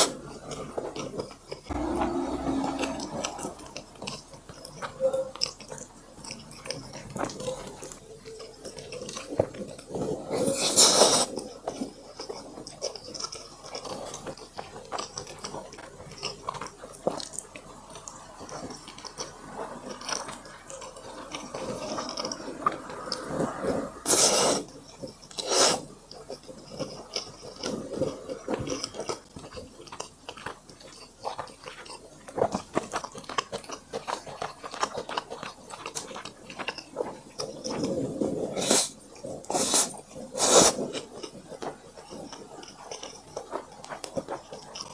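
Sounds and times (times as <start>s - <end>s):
chewing and mouth smacking: 0.0s - 44.9s.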